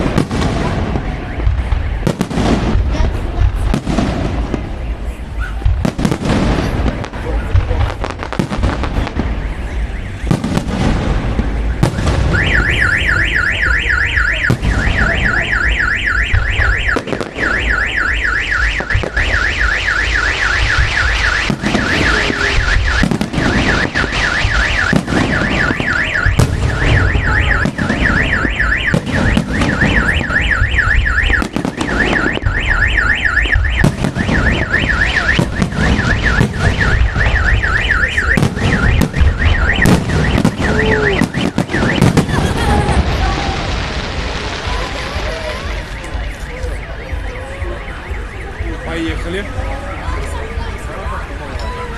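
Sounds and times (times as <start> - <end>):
car alarm wailing: 0.0 - 51.9
fireworks banging and crackling: 0.0 - 51.9.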